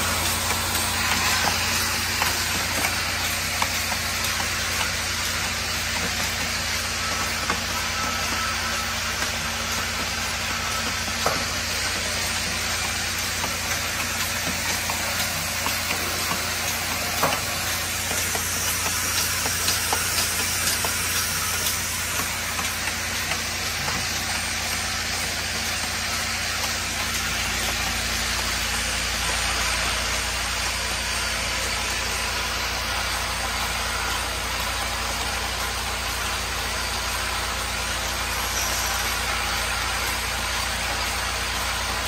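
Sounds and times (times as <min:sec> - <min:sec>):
vibratory feeder hum: 0:00.0 - 0:42.0.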